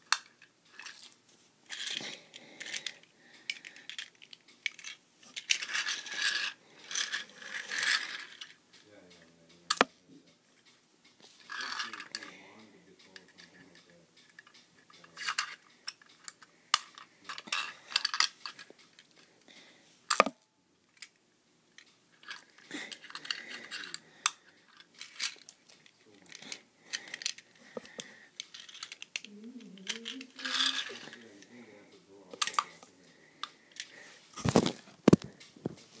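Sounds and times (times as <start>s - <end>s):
plastic toys clattering: 0.0s - 8.6s, 11.3s - 12.4s, 13.0s - 21.2s, 21.8s - 31.6s, 32.3s - 36.0s.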